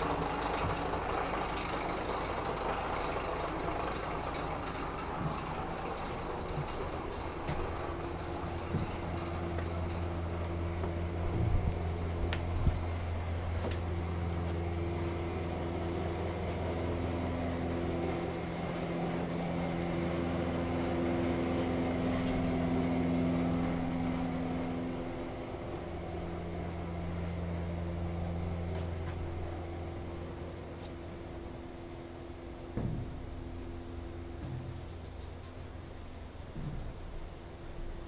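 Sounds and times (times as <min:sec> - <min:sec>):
low machinery hum: 0:00.0 - 0:38.0.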